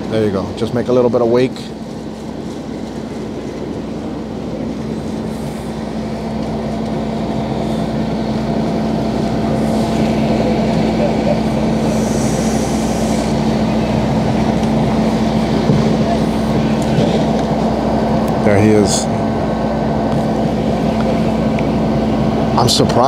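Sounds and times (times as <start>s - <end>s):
outboard motor droning: 0.0s - 23.0s.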